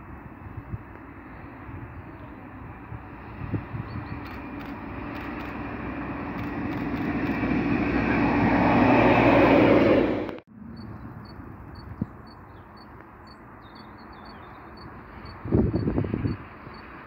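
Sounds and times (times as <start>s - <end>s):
rail vehicle approaching: 0.0s - 17.0s.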